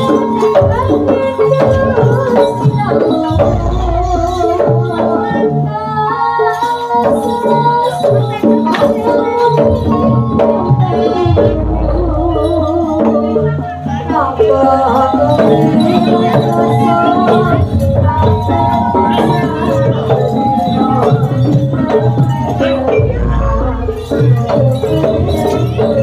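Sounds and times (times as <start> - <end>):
drums: 0.0 - 26.0
jingling percussion: 0.0 - 26.0.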